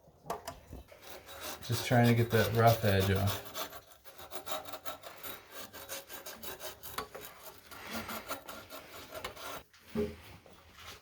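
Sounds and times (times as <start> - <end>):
hand tool scraping pipe edge: 0.8 - 9.7.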